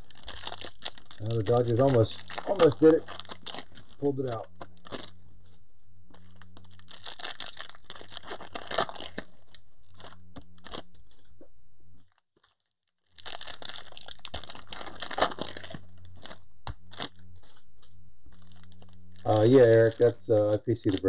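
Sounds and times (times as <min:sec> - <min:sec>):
foil wrapper crinkling and tearing: 0:00.0 - 0:05.2, 0:06.2 - 0:11.3, 0:12.1 - 0:17.6, 0:18.3 - 0:21.0
low hum: 0:00.0 - 0:12.1, 0:13.2 - 0:21.0.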